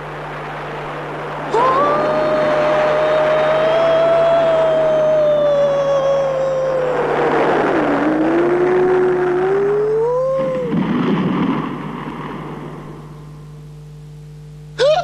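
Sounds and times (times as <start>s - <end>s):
rushing noise: 0.0s - 13.4s.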